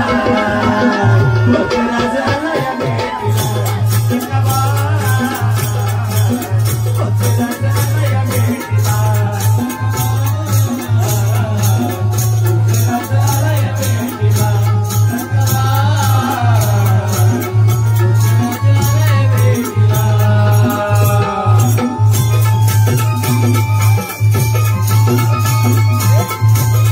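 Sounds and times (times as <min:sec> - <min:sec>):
drum beat: 0:00.0 - 0:26.9
instrumental melody: 0:00.0 - 0:26.9
jingling rattle percussion: 0:03.2 - 0:26.9.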